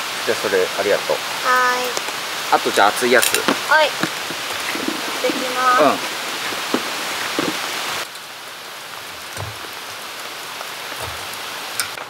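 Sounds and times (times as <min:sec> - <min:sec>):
rushing hiss: 0:00.0 - 0:12.0
charcoal crackling: 0:01.6 - 0:12.0.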